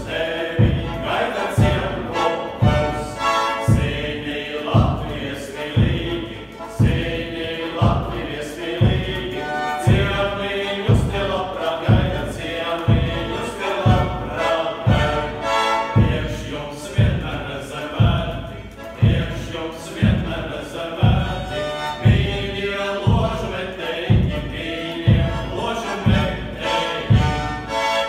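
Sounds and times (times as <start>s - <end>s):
accordion: 0.0s - 28.0s
drum beating steadily: 0.0s - 28.0s
male choir singing folk song: 0.0s - 28.0s.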